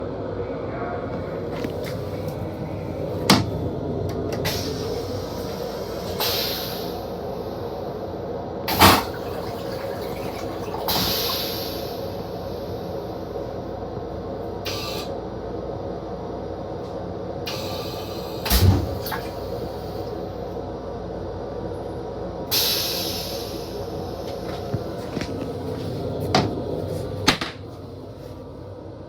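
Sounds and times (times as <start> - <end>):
railcar running hum: 0.0 - 29.0.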